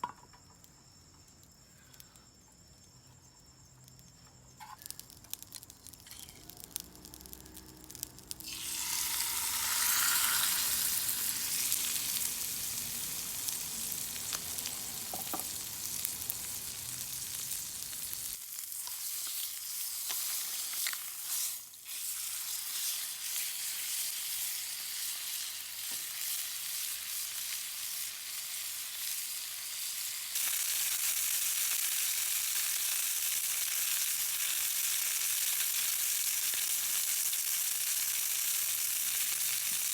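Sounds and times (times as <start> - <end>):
fire crackles: 3.7 - 21.8, 26.0 - 39.9
chicken sizzling over campfire: 3.9 - 39.9.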